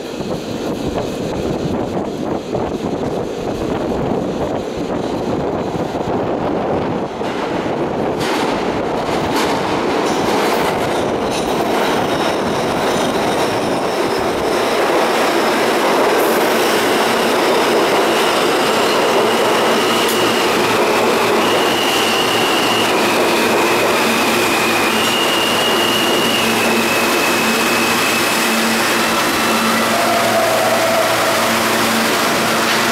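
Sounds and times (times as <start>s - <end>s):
high train whine: 0.0s - 32.9s
train wheels rumbling on rails: 0.0s - 32.9s.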